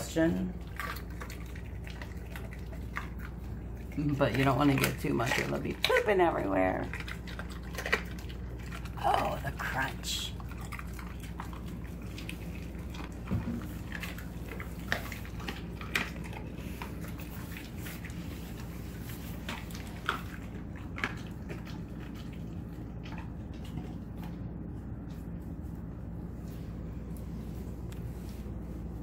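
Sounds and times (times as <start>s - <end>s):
dog chewing meat and bone: 0.0s - 29.0s
steady low hum: 0.0s - 29.0s.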